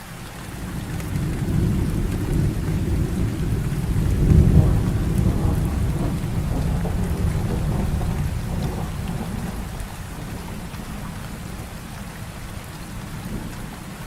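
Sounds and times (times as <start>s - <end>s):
heavy rain falling: 0.0s - 14.0s
low rumble of thunder: 0.3s - 14.0s.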